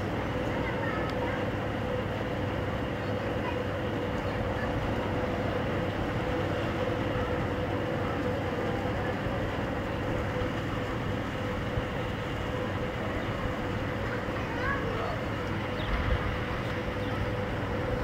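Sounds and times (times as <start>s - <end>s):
steady mechanical drone: 0.0s - 18.0s.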